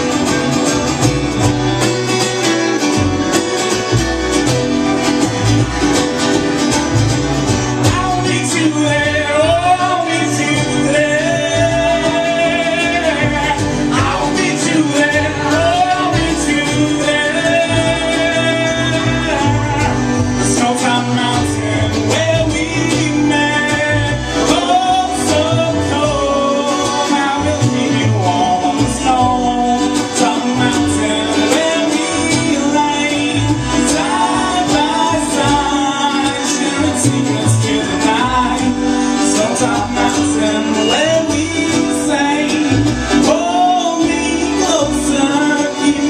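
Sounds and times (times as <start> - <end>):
folk band playing: 0.0 - 46.0
person singing: 7.7 - 46.0.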